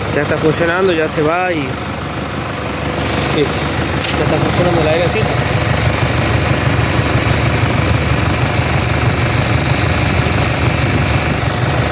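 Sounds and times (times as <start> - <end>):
air conditioning compressor running: 0.0 - 11.9
car engine idling: 0.0 - 11.9.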